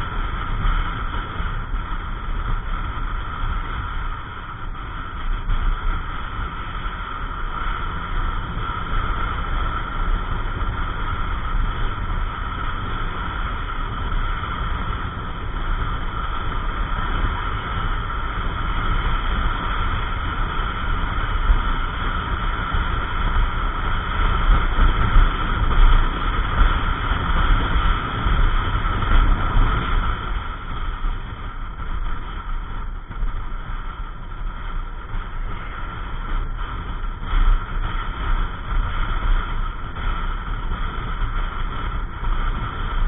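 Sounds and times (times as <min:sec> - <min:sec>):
road noise: 0:00.0 - 0:43.0
wind buffeting microphone: 0:00.0 - 0:43.0.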